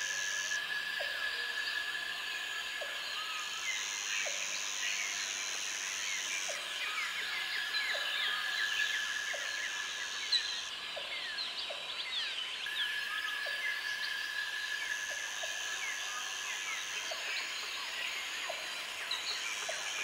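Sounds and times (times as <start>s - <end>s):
higher insect trill: 0.0s - 20.0s.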